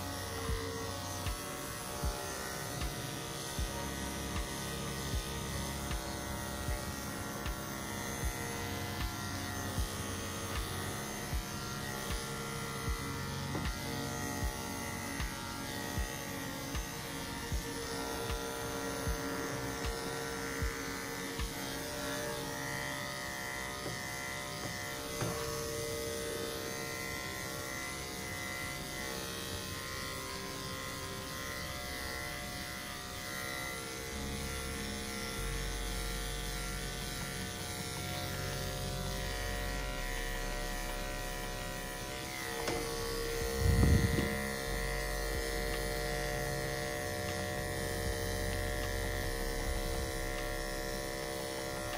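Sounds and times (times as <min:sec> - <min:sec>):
electric clippers buzzing: 0:00.0 - 0:51.9.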